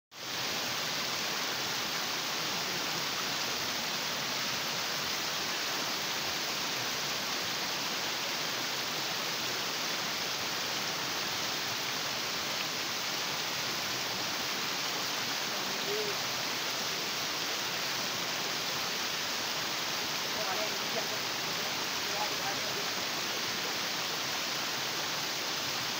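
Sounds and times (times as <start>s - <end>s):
stream cascading over rocks: 0.1s - 25.9s.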